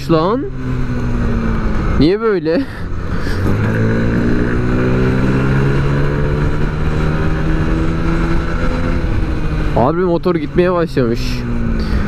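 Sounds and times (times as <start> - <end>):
scooter engine accelerating: 0.0 - 12.0
wind and road noise: 0.0 - 12.0.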